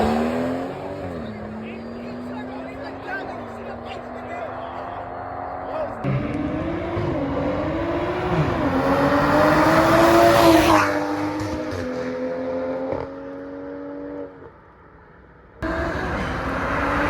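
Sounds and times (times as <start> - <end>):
car engine revving: 0.0 - 14.6, 15.6 - 17.0.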